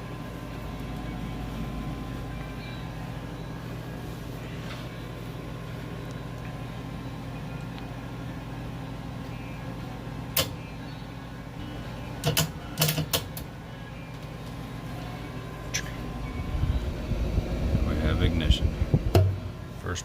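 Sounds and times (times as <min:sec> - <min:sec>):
furnace low hum: 0:00.0 - 0:20.0.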